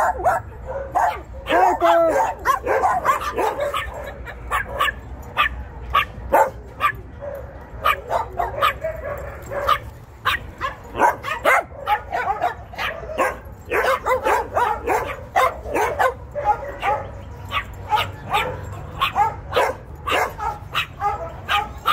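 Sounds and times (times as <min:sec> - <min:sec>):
dogs barking and yipping: 0:00.0 - 0:21.9.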